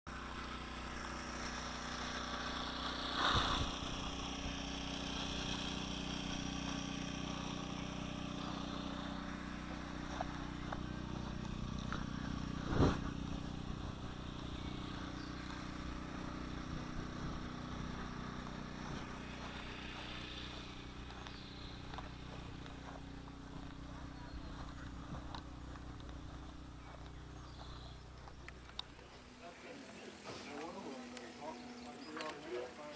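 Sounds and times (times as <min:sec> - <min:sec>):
model airplane engine humming: 0:00.1 - 0:32.9.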